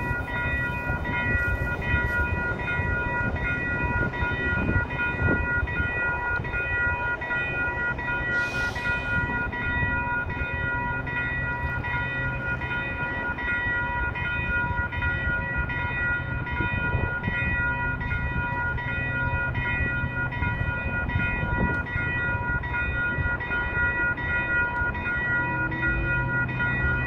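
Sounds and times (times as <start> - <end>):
railroad crossing bell ringing: 0.0 - 27.0.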